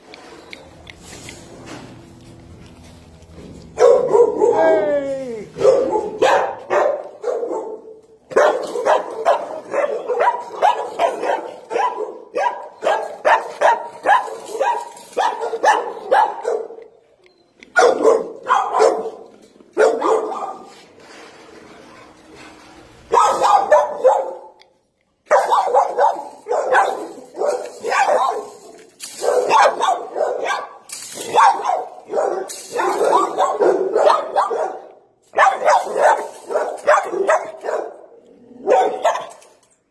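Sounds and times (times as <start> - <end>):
dogs barking: 3.6 - 4.8, 5.5 - 17.0, 17.6 - 20.8, 23.1 - 39.6.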